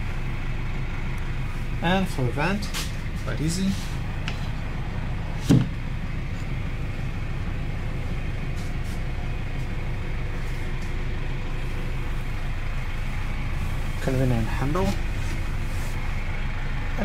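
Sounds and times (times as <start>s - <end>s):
minibus engine idling: 0.0s - 17.0s.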